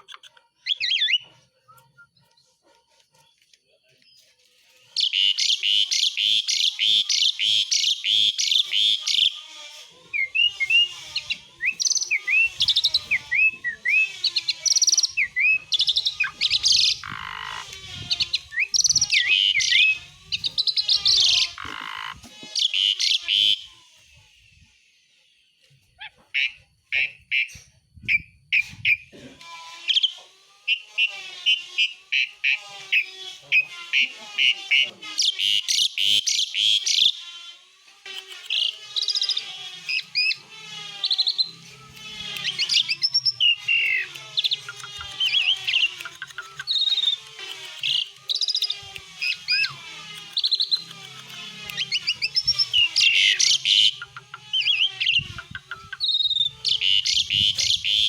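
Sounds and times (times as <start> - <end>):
starling rattling chatter and whistles: 0.0 - 58.0.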